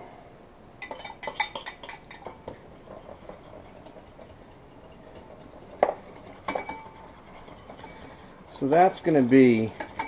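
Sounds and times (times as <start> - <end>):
metal whisk clinking glass bowl: 0.8 - 10.0
whisk scraping: 0.8 - 10.0.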